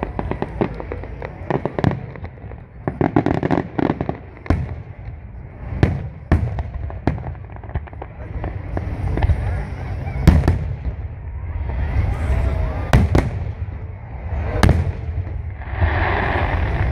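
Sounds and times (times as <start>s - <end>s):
fireworks bursting bangs: 0.0s - 16.9s.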